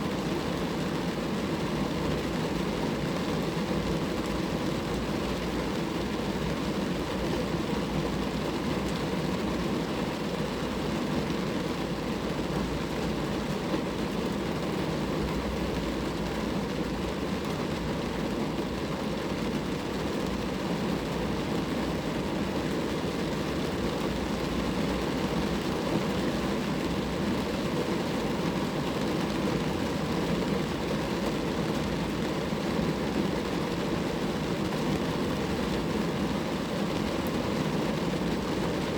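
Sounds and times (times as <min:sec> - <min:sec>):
rain on a car: 0:00.0 - 0:38.9.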